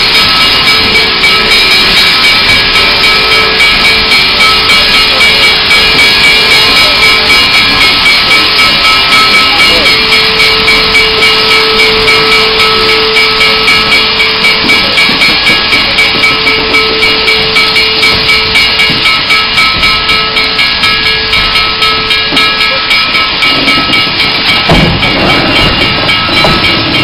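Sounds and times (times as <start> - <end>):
steady tone: 0.0 - 27.0
steam locomotive hissing: 0.0 - 27.0.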